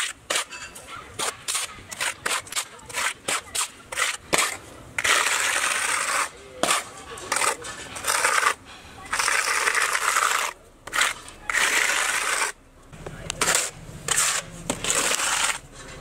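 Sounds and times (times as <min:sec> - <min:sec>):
putty spreader scraping rough wall: 0:00.0 - 0:16.0.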